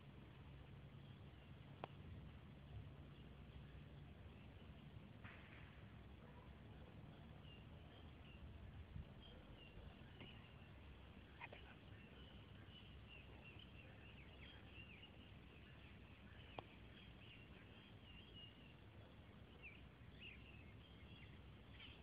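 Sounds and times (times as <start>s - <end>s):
faint bird chirps: 0.4s - 22.0s.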